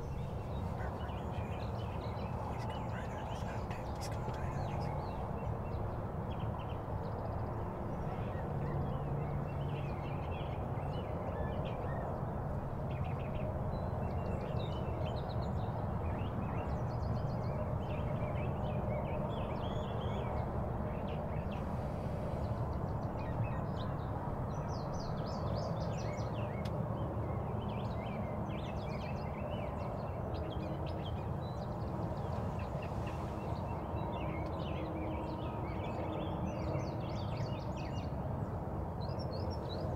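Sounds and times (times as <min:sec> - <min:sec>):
low outdoor background rush: 0:00.0 - 0:39.9
songbirds chirping: 0:00.0 - 0:39.9.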